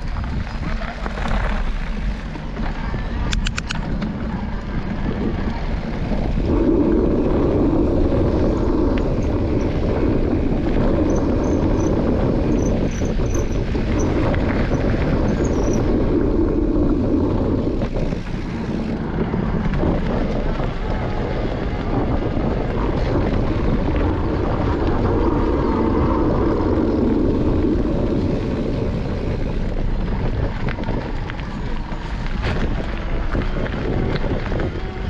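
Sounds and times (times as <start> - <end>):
bike tyres on gravel: 0.0 - 35.0
wind rushing on microphone: 0.0 - 35.0.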